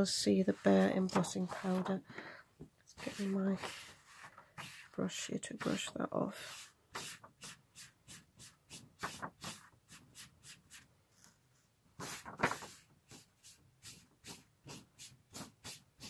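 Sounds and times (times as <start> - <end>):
paintbrush sweeping over paper: 0.4 - 1.9, 2.9 - 16.0.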